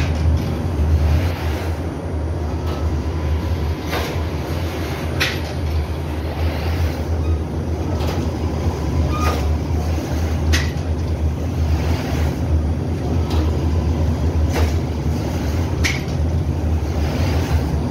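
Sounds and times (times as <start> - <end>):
machinery rumble and hum: 0.0 - 17.9.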